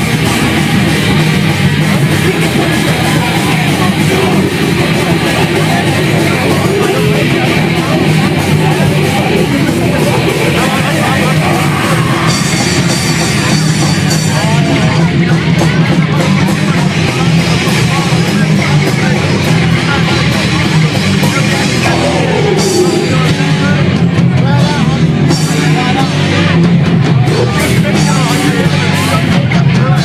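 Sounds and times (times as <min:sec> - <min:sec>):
punk band playing loud: 0:00.0 - 0:30.0.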